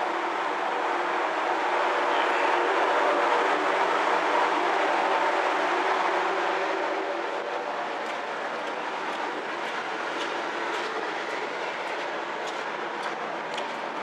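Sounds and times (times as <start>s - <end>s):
ferry engine and hull drone: 0.0s - 14.0s.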